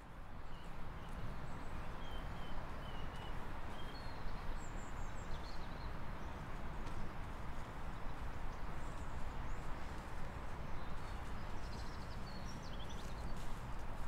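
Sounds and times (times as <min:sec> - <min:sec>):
low rush of woodland: 0:00.0 - 0:14.0.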